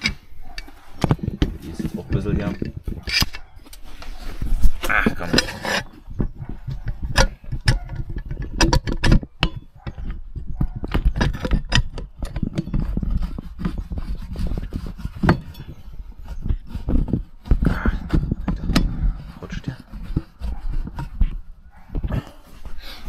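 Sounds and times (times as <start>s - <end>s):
tools clicking and knocking: 0.0s - 3.8s, 4.8s - 13.9s, 14.5s - 21.4s.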